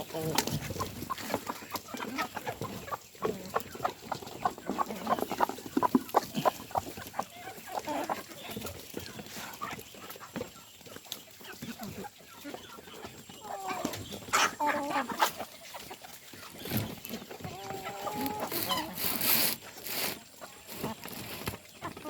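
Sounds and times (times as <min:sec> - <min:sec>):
chickens clucking: 0:00.0 - 0:22.0
drawn-out chicken calls: 0:00.0 - 0:22.0.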